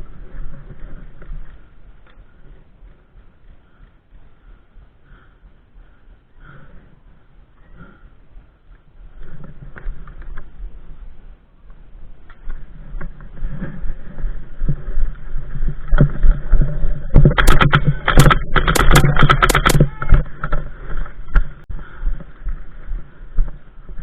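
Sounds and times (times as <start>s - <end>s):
low rumbling: 0.0s - 24.0s.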